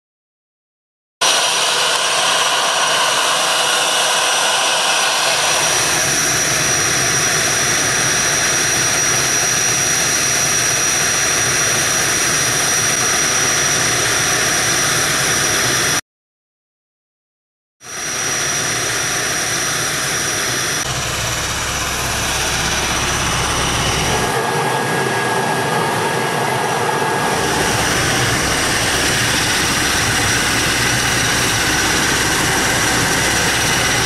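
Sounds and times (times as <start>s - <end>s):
turboprop engines running: 1.2s - 16.0s, 17.8s - 34.0s.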